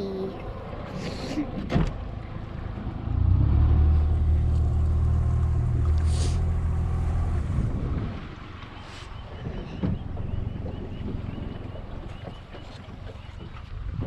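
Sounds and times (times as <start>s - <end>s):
outboard motor: 0.0s - 14.0s.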